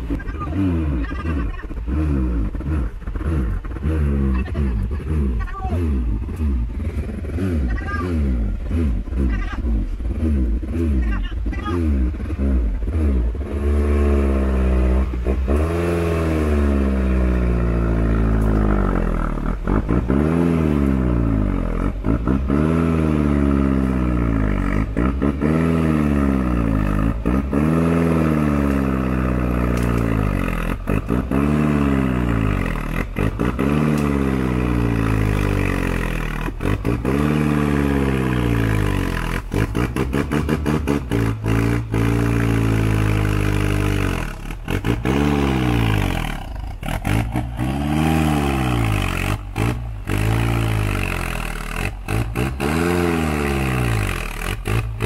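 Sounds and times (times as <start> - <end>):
engine revving: 0.0 - 55.0.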